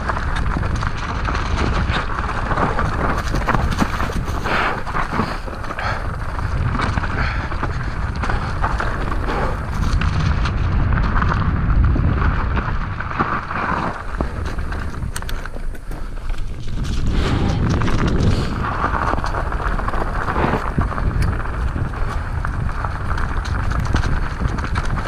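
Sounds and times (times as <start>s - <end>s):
bike rattles: 0.0s - 25.0s
bike tyres rolling on dirt: 0.0s - 25.0s
wind buffeting microphone: 0.0s - 25.0s.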